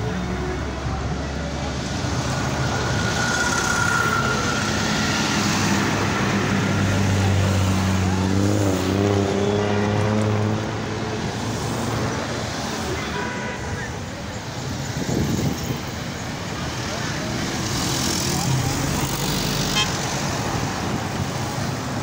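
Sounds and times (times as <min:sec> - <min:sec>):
buses and cars driving past: 0:00.0 - 0:22.0.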